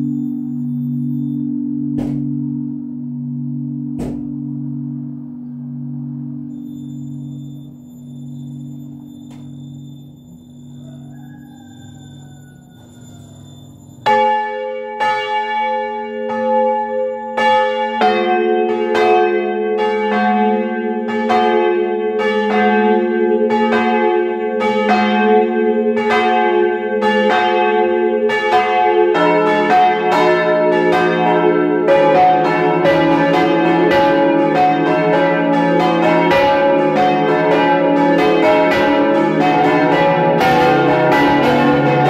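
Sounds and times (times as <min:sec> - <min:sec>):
church bells ringing: 0:00.0 - 0:42.0.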